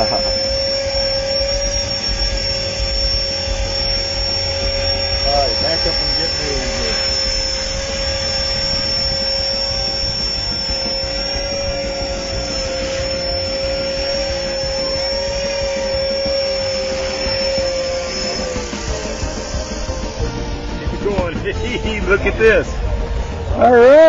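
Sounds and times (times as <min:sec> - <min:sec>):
model helicopter motor and rotor whine: 0:00.0 - 0:24.0.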